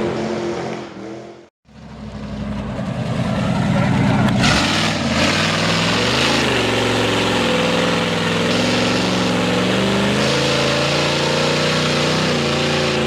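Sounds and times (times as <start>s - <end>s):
loud truck engine running: 0.0s - 13.0s.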